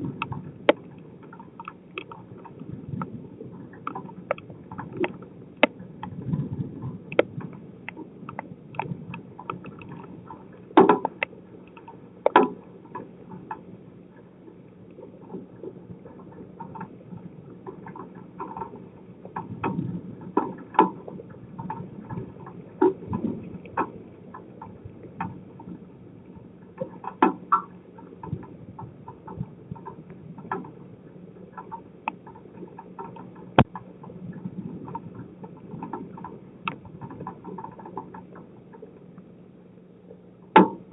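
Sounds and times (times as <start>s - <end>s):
wind: 0.0s - 40.9s.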